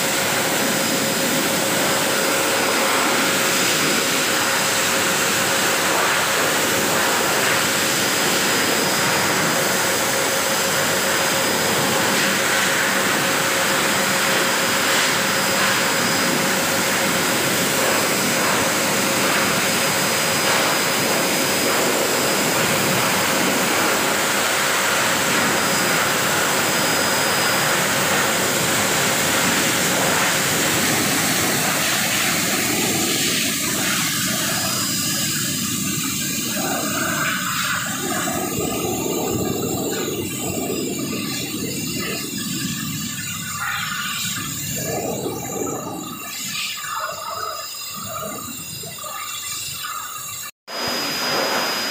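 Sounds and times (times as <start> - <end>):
dryer air rushing: 0.0 - 47.0, 50.7 - 51.9
motor whine: 0.0 - 51.9.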